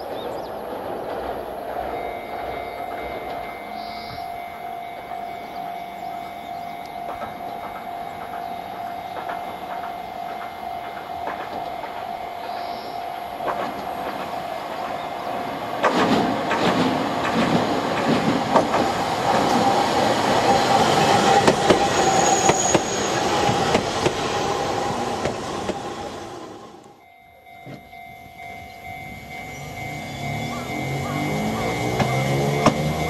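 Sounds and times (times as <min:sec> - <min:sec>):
train wheels clicking over rail joints: 0:00.0 - 0:27.0, 0:27.6 - 0:33.0
electric train whine: 0:00.0 - 0:33.0.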